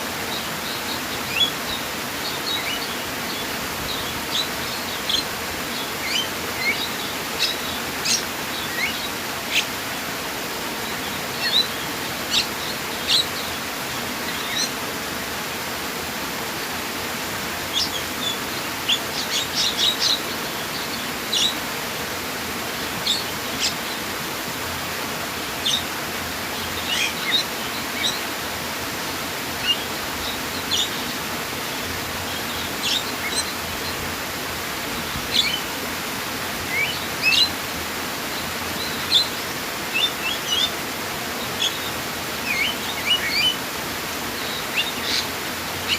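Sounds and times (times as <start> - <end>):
flowing water: 0.0 - 45.9
songbirds chirping: 0.0 - 45.9.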